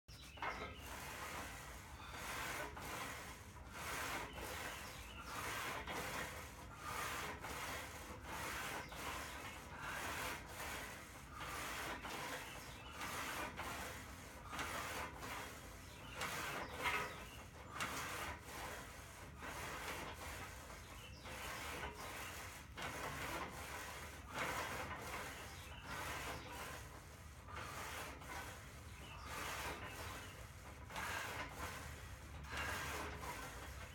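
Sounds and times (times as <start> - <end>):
rhythmic rasping of weight machine: 0.2 - 33.9.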